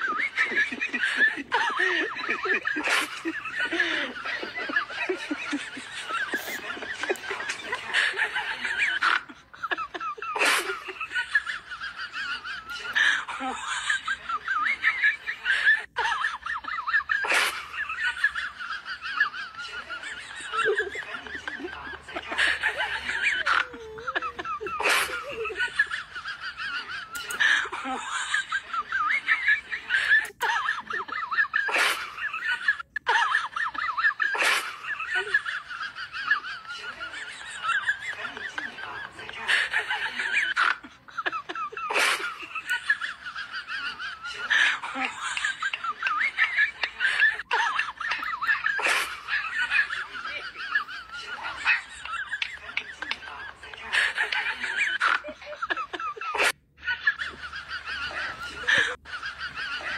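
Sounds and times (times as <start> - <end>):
laugh track: 0.0 - 59.9.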